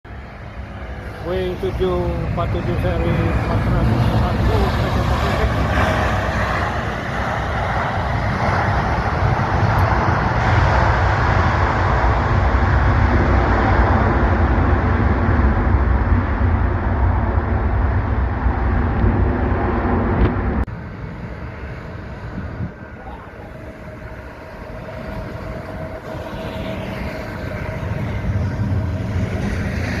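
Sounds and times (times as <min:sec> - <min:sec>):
engine with faint whine: 0:00.1 - 0:30.0
jet engine roar: 0:00.1 - 0:30.0.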